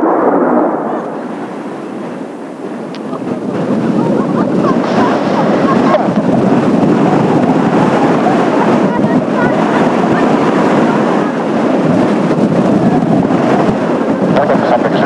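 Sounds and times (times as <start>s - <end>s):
jet aircraft roar overhead: 0.0s - 15.0s
wind buffeting microphone: 0.0s - 15.0s.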